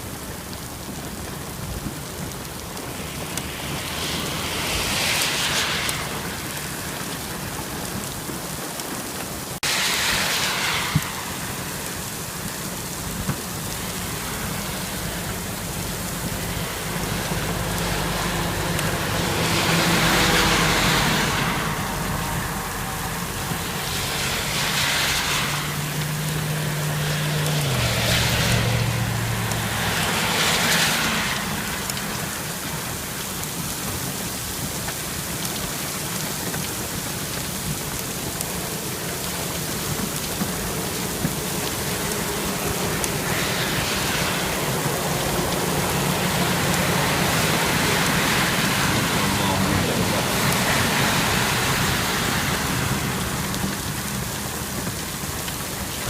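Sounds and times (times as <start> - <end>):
heavy rain on car: 0.0 - 56.0
road spray hiss: 0.0 - 56.0.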